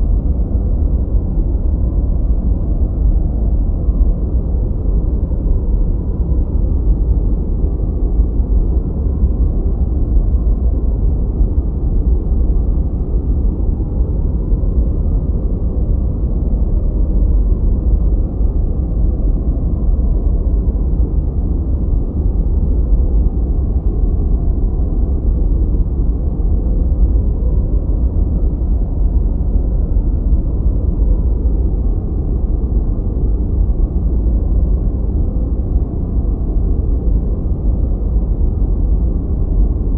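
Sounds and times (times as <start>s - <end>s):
deep muffled rumble noise: 0.0s - 39.9s.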